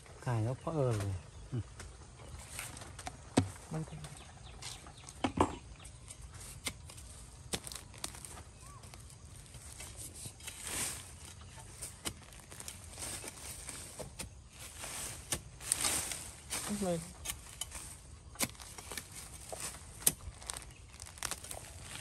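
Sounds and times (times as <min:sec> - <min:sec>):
scraping and rustling of leaves: 0:00.0 - 0:22.0.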